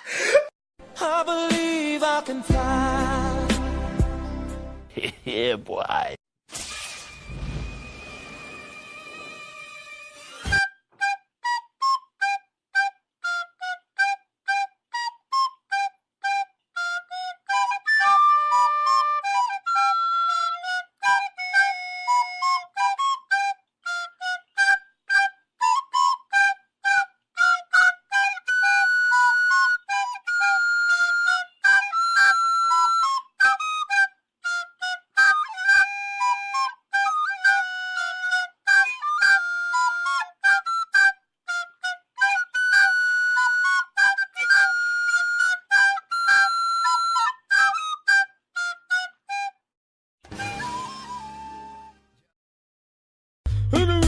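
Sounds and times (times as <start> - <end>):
flute-like woodwind melody: 7.9 - 52.2.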